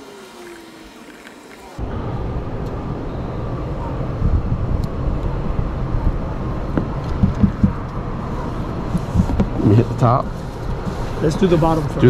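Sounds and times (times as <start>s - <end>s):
low outdoor rumble: 1.7s - 12.0s.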